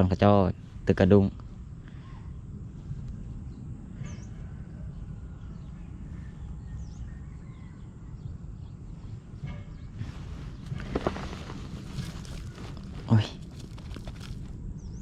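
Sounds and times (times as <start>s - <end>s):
faint bird chirps: 0.0s - 15.0s
low outdoor rumble: 0.0s - 15.0s.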